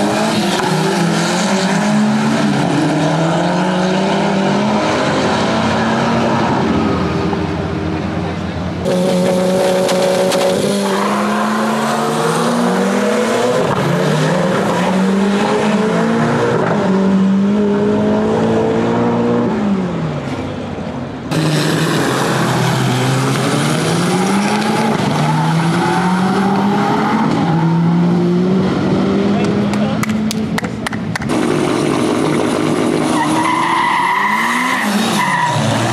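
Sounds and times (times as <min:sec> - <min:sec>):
drag car engines accelerating: 0:00.0 - 0:35.9.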